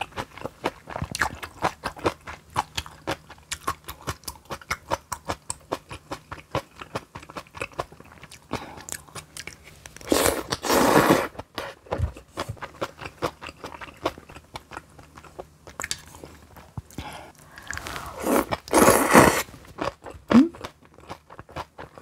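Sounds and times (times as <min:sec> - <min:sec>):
person chewing crisp food: 0:00.0 - 0:22.0.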